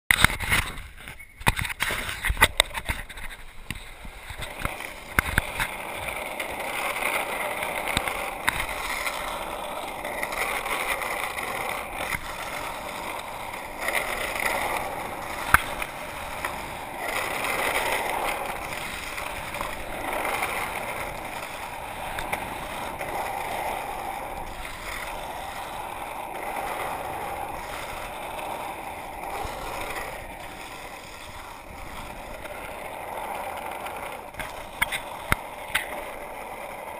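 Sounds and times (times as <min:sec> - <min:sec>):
board wheels rolling on asphalt: 0:00.1 - 0:36.9.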